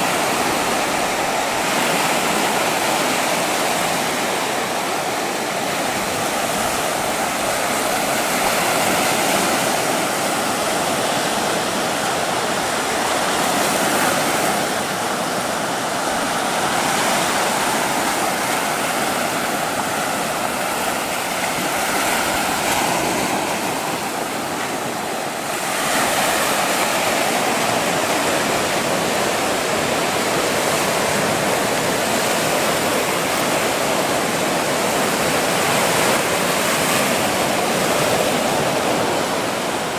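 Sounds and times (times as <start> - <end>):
waves washing over pebble beach: 0.0 - 39.9.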